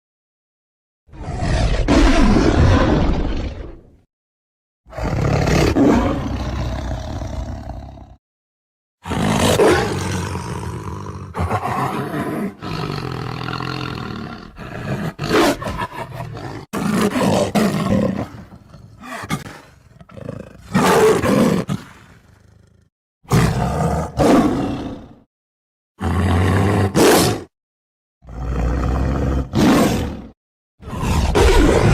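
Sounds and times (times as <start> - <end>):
tiger roaring and growling: 1.1 - 4.0, 4.9 - 8.2, 9.0 - 25.3, 26.0 - 27.5, 28.2 - 31.9.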